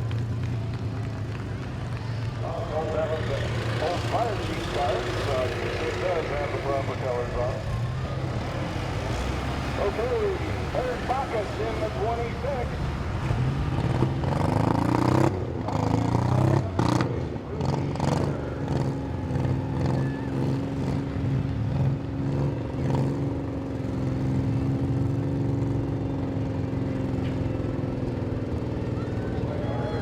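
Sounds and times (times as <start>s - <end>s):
car engine revving: 0.0s - 25.8s.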